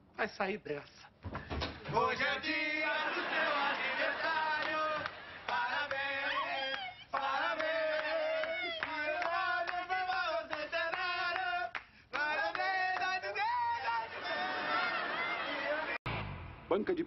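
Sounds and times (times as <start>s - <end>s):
group of voices singing: 1.8s - 16.0s
people clapping along: 1.9s - 16.0s.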